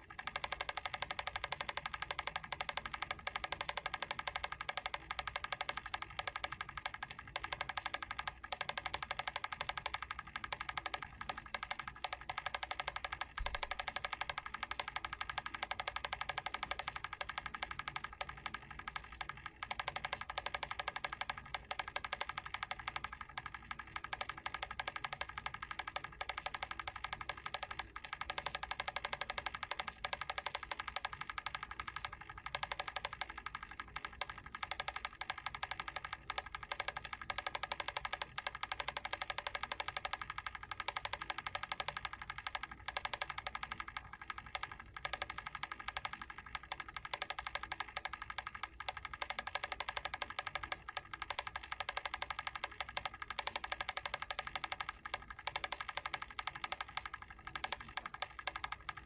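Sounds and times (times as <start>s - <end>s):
timer switch clicking rapidly: 0.0s - 59.0s.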